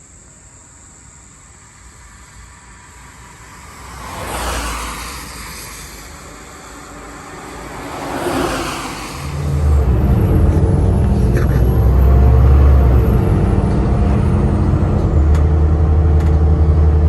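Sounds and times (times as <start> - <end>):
vehicles passing by: 0.9 - 17.0
loud low engine rumble: 1.9 - 17.0.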